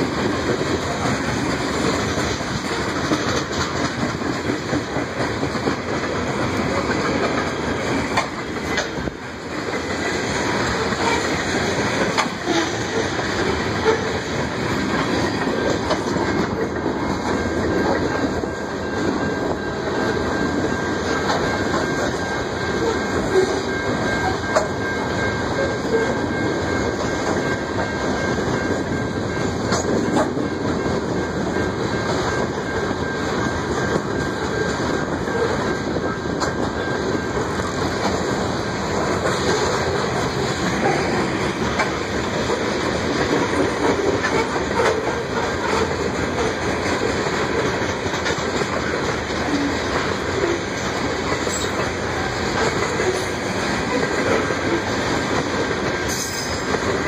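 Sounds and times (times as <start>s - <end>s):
steel wheels on rail: 0.0s - 57.0s.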